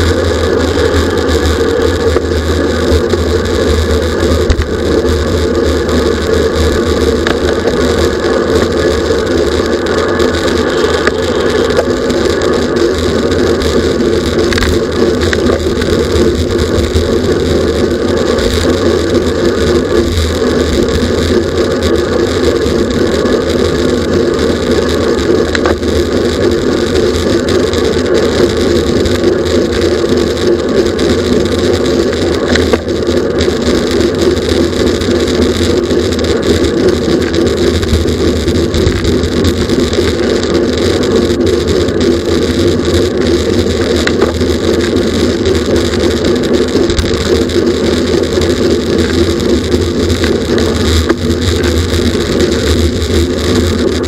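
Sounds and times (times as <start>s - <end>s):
bicycle drivetrain hum: 0.0s - 54.0s
wind rushing over microphone: 0.0s - 54.0s.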